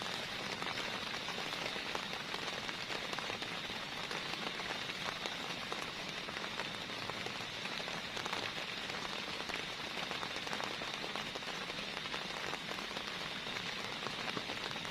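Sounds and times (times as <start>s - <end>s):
heavy rain: 0.0s - 14.9s.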